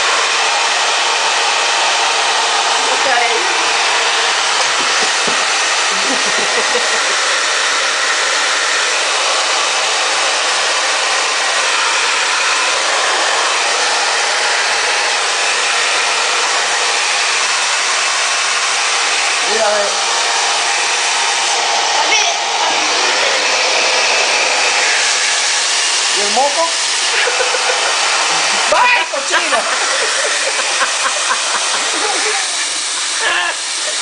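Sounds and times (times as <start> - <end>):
hair dryer running: 0.0 - 34.0.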